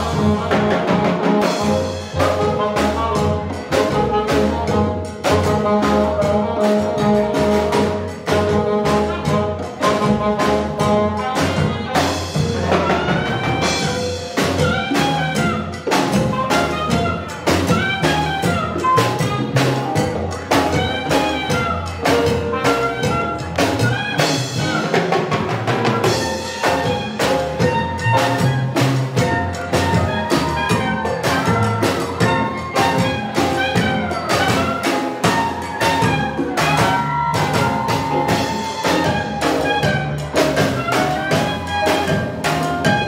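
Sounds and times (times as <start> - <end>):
congas: 0.0 - 43.0
jazz band playing: 0.0 - 43.0
saxophone lead: 0.0 - 43.0.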